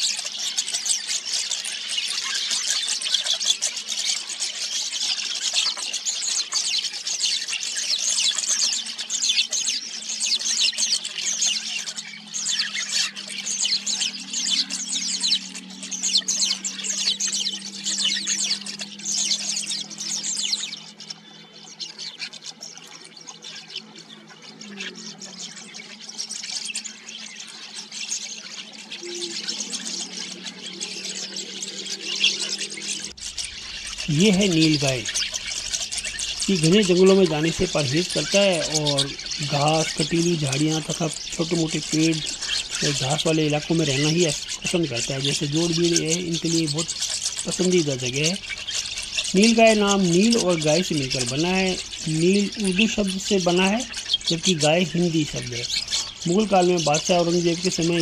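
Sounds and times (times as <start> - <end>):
steady low hum: 9.9 - 58.0.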